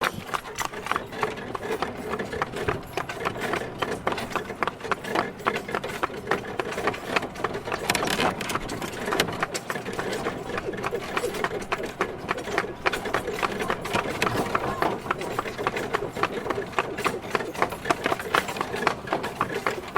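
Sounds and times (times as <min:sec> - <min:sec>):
horse hooves clopping: 0:00.0 - 0:19.9.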